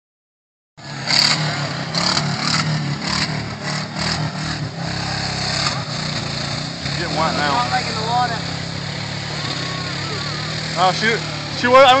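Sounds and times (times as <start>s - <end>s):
car engine revving: 0.8s - 12.0s.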